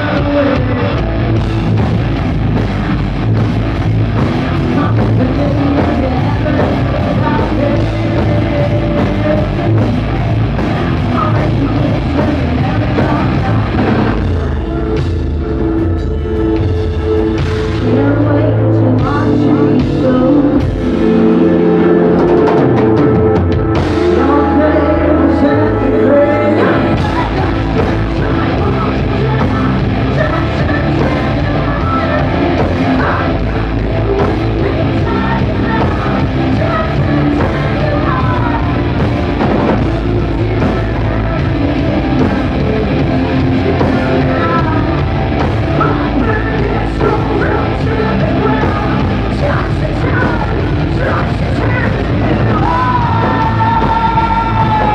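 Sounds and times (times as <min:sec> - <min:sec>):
hard rock band playing: 0:00.0 - 0:54.9
woman singing lead: 0:00.0 - 0:54.9.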